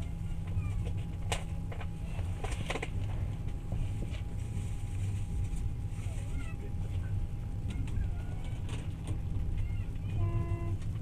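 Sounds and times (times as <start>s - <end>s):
faint hum: 0.0s - 11.0s
train carriage rumble: 0.0s - 11.0s.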